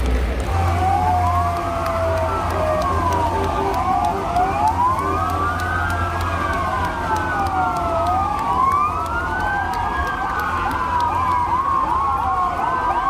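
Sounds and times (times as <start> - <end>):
police sirens wailing: 0.0 - 13.0
siren yelp: 0.5 - 13.0.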